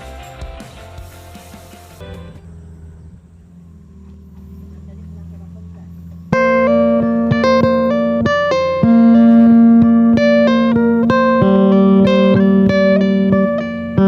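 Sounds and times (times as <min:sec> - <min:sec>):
plucked string melody: 0:00.0 - 0:02.5, 0:05.2 - 0:14.0
held low note: 0:02.0 - 0:14.0.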